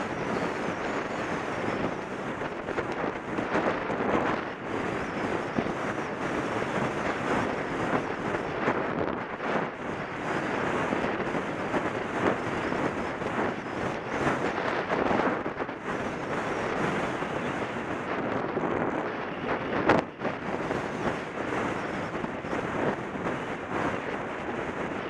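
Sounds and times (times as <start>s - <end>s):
wind buffeting a microphone: 0.0s - 25.0s.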